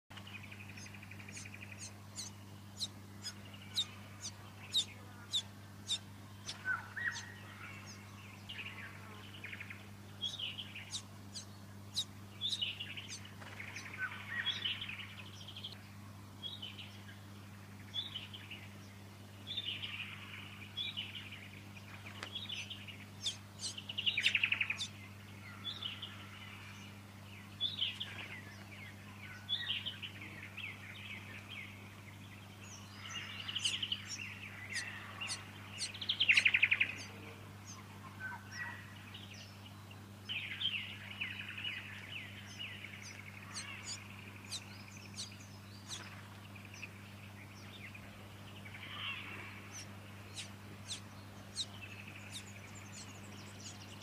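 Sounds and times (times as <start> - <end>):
small birds chirping: 0.1 - 54.0
steady low hum: 0.1 - 54.0.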